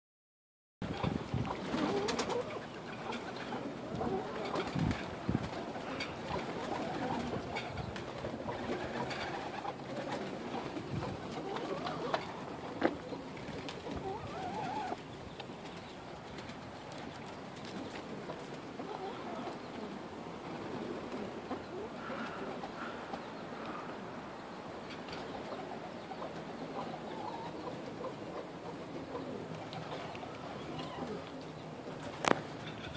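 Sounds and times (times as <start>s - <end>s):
pigeons cooing: 0.9s - 15.1s, 16.7s - 32.9s.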